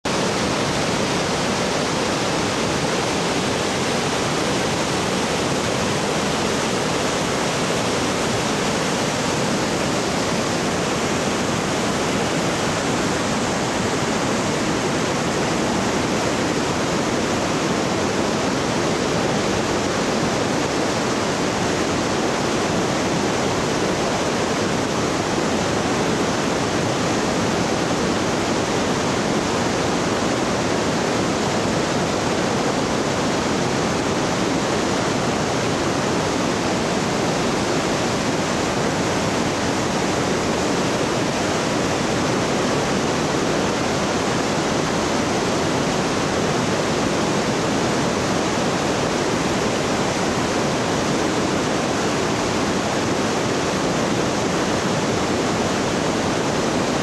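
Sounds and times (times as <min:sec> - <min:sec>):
whitewater rushing over boulders: 0:00.0 - 0:57.0.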